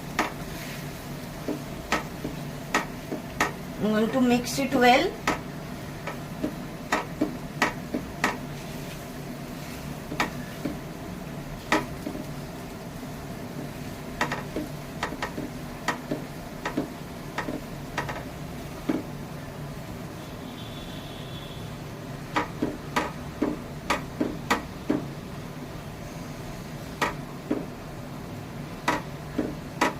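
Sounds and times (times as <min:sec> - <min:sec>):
utensil knocking and scraping in pan: 0:00.0 - 0:19.2, 0:22.3 - 0:25.2, 0:26.9 - 0:27.8, 0:28.8 - 0:29.9.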